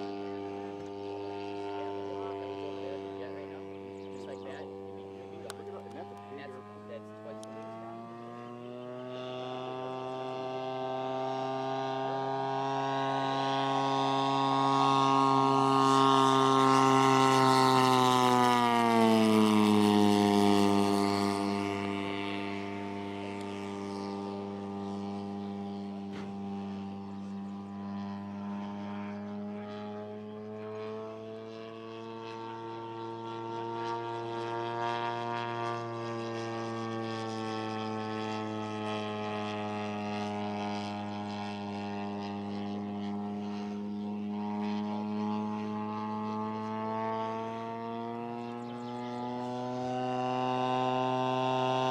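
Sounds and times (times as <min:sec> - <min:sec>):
model plane engine droning: 0:00.0 - 0:51.9.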